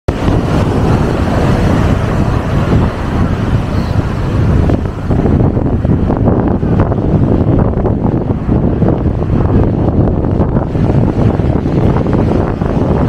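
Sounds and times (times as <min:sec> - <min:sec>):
strong wind on microphone: 0:00.1 - 0:13.0.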